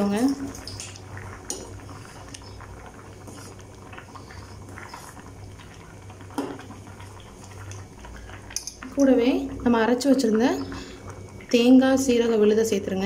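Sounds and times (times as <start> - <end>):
pot bubbling at a boil: 0.0 - 13.0.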